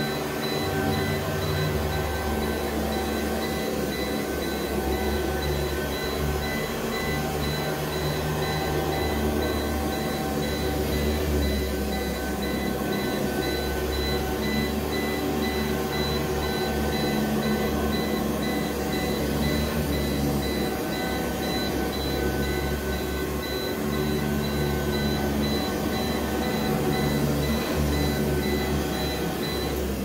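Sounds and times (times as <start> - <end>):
vacuum cleaner on carpet: 0.0 - 30.0.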